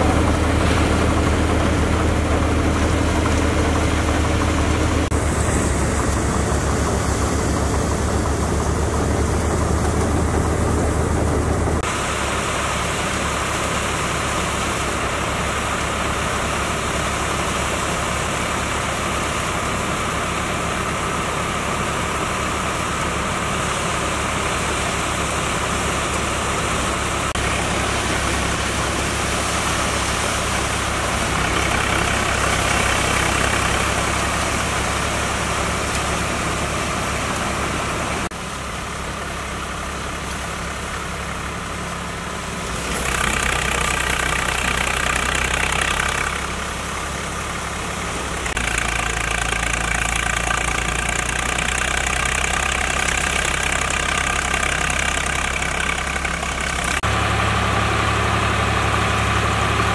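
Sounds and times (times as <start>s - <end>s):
diesel engine and thresher drone: 0.0s - 59.9s.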